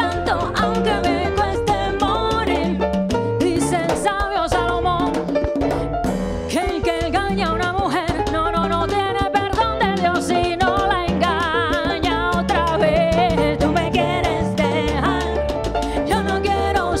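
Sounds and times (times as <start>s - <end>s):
bass line: 0.0s - 17.0s
percussion: 0.0s - 17.0s.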